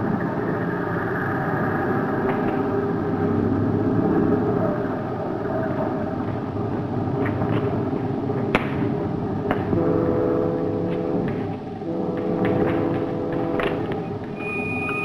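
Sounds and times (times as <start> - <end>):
sci-fi ray machine rumbling hum: 0.0 - 15.0.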